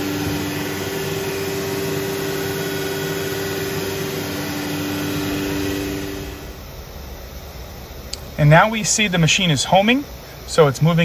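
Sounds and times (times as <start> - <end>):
vacuum pump droning: 0.0 - 11.0.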